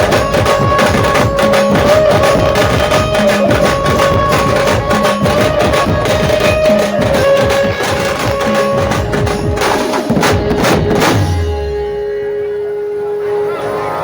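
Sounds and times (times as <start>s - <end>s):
rapid drumming: 0.0s - 11.8s
held melody line: 0.0s - 14.0s.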